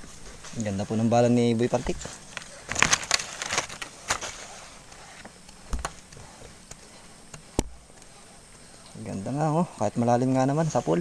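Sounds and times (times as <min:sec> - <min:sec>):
leaves and grass rustling: 0:00.0 - 0:11.0.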